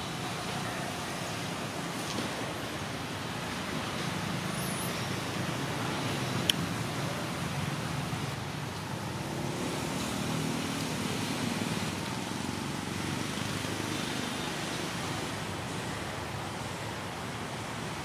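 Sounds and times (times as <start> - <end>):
distant road traffic: 0.0 - 18.0.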